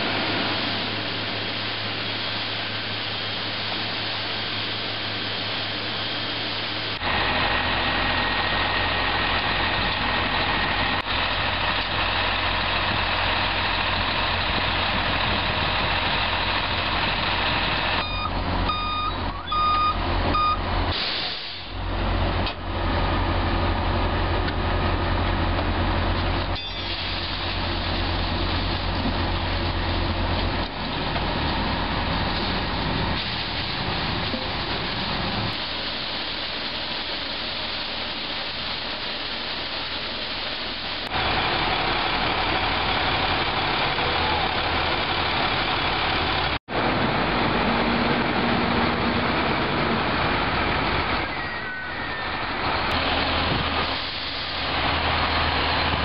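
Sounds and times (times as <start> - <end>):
vacuum truck engine rumble: 0.0 - 56.0.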